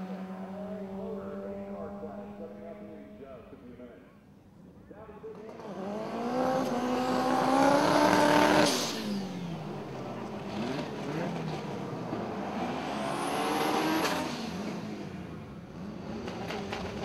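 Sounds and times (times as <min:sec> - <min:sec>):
race car engine revving: 0:00.0 - 0:03.4, 0:05.2 - 0:17.0.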